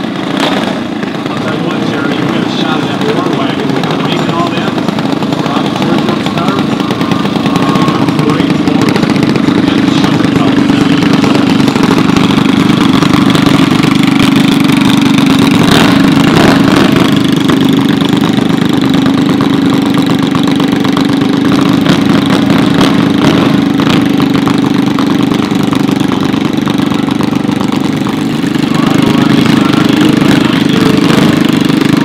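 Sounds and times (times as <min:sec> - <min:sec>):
single-cylinder engine idling: 0:00.0 - 0:32.0.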